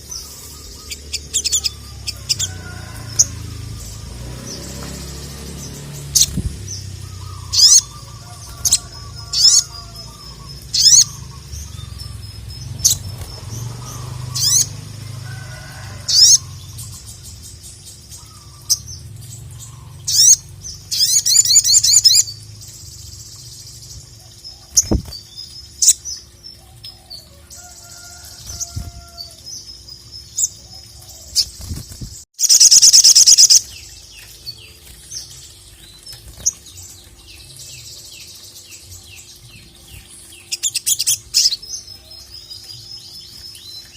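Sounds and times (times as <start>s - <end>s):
sunbird singing: 0.0s - 31.6s, 32.4s - 43.9s.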